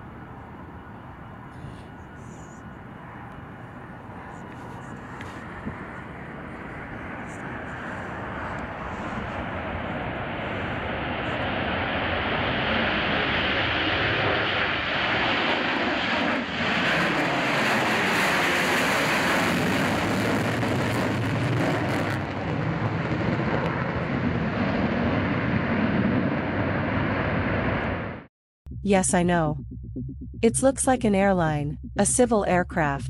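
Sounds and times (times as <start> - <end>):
jet engines roaring: 0.0 - 28.2.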